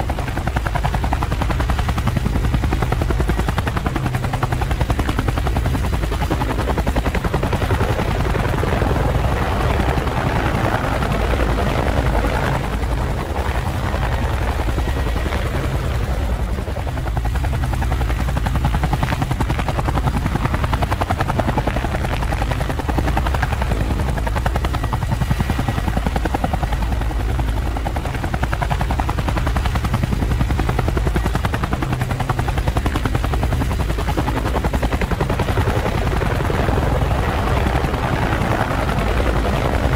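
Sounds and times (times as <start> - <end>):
helicopter rotor whir: 0.0 - 39.9.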